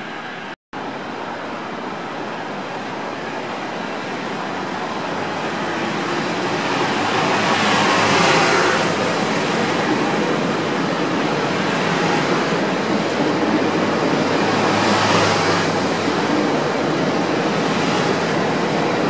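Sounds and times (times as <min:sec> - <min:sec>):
train wheels rushing on rail: 0:01.7 - 0:19.0.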